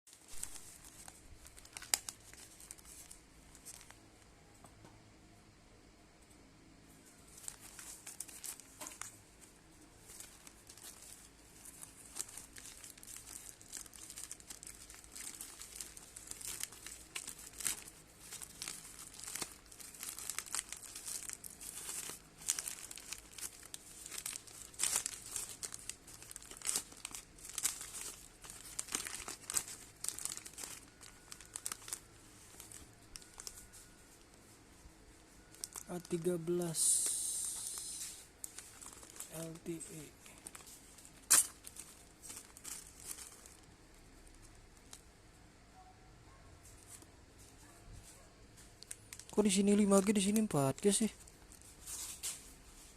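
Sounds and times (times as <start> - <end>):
plastic packaging crinkling: 0.1 - 4.4, 7.0 - 45.2, 48.1 - 52.9.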